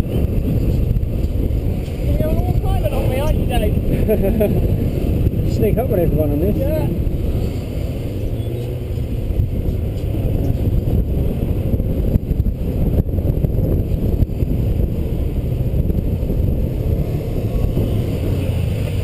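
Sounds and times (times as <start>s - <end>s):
wind noise on microphone: 0.0s - 19.0s.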